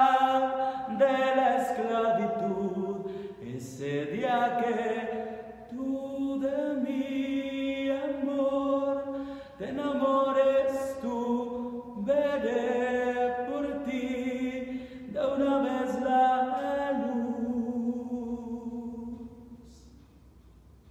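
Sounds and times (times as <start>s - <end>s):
man singing unaccompanied: 0.0s - 19.9s.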